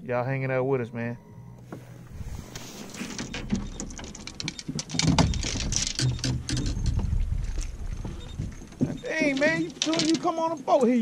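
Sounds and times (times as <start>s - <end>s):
clicking and rustling of fishing gear: 1.6s - 11.0s.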